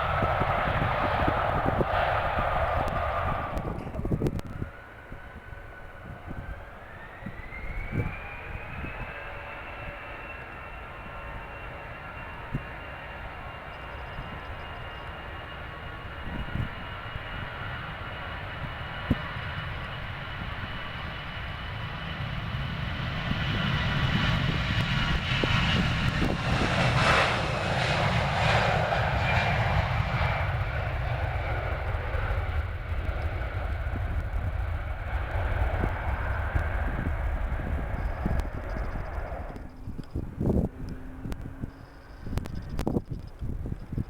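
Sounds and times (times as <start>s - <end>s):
jet engines roaring with whine: 0.0s - 44.0s.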